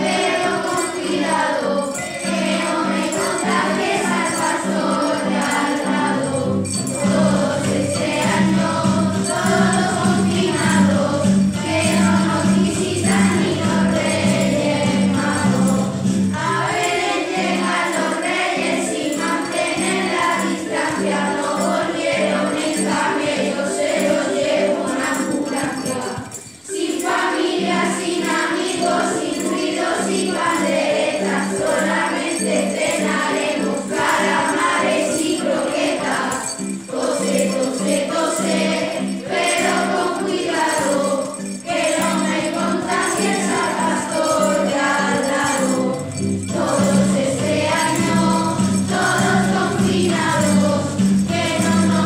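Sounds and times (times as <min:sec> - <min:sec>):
children's choir singing: 0:00.0 - 0:52.0
instrumental accompaniment: 0:00.0 - 0:52.0.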